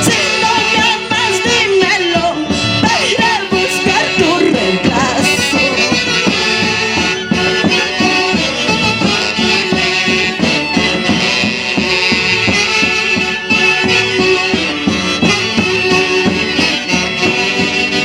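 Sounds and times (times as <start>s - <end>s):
wind instruments playing melody: 0.0s - 18.0s
steady beat: 2.8s - 18.0s.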